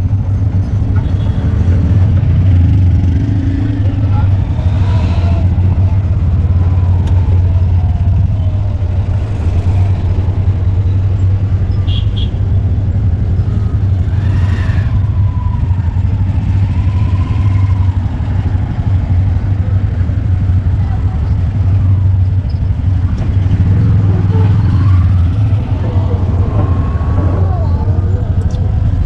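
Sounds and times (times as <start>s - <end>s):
road traffic noise: 0.0s - 29.0s
vehicle engine low drone: 0.0s - 29.0s.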